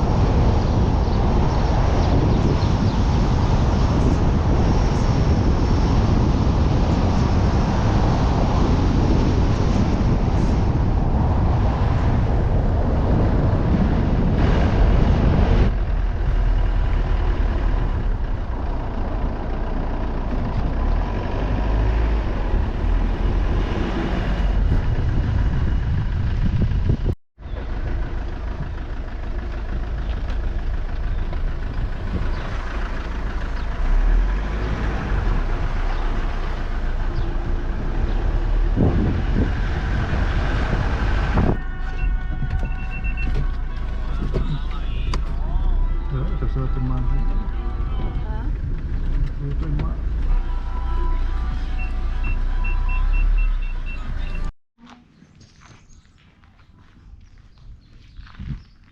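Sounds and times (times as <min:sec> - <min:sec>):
vehicle engine and road noise: 0:00.0 - 0:58.9.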